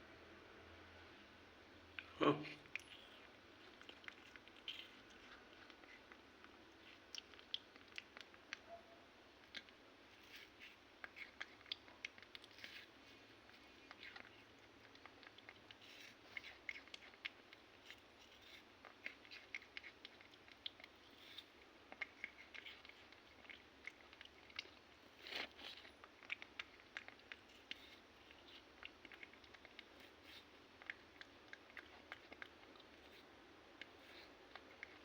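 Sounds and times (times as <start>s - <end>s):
faint small clicks and crunches: 2.0s - 8.8s, 9.4s - 35.0s.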